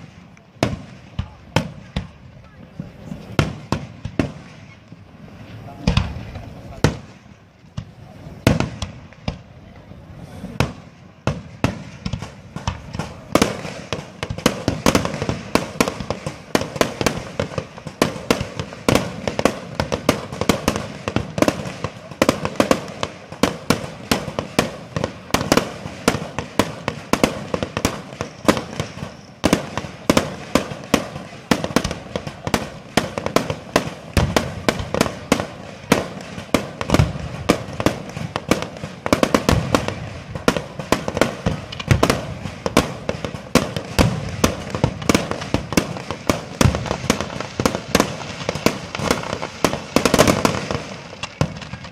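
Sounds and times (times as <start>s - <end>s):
fireworks bursting: 0.0s - 51.9s.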